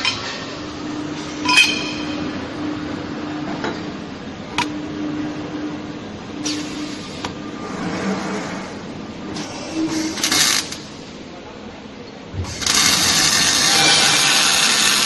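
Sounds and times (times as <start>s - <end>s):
machine low hum: 0.0s - 15.0s.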